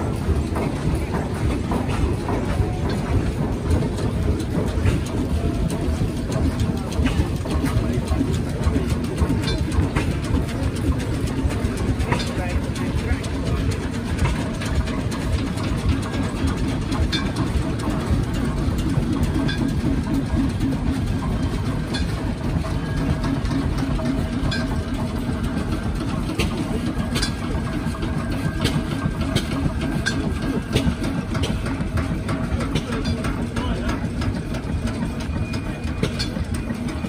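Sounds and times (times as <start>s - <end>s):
sharp clicks and knocks: 0.0s - 37.0s
steam engine machinery rumble: 0.0s - 37.0s.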